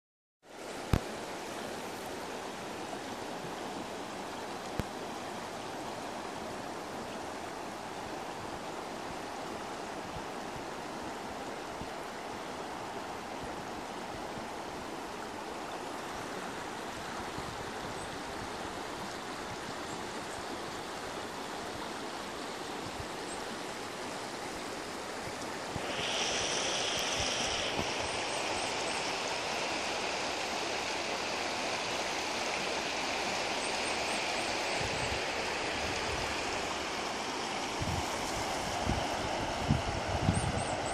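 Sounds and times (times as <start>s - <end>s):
river rushing over stones: 0.5s - 40.9s.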